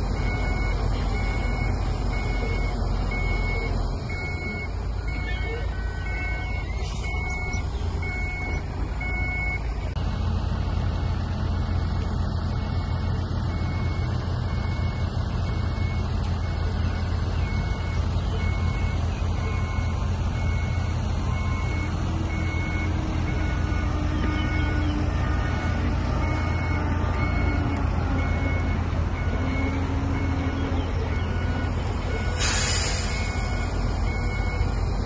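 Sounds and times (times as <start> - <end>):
truck backup alarm beeping: 0.0 - 10.0, 11.9 - 35.0
diesel engine rumble: 0.0 - 35.0.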